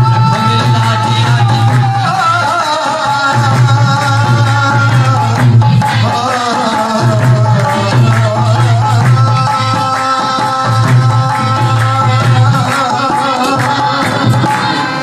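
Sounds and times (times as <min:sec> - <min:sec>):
dholak drum beat: 0:00.0 - 0:15.0
harmonium chords: 0:00.0 - 0:15.0
man singing: 0:00.0 - 0:15.0.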